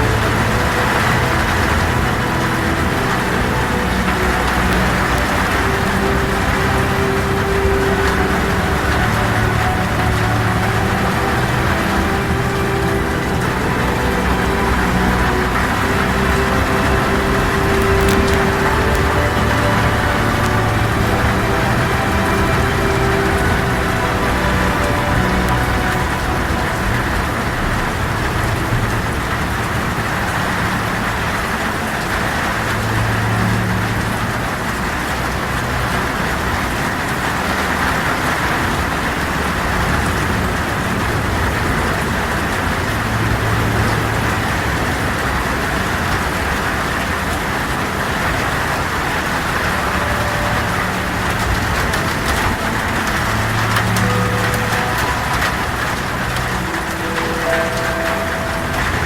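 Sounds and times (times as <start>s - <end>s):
heavy rain falling: 0.0s - 59.0s
low hum: 0.0s - 59.0s.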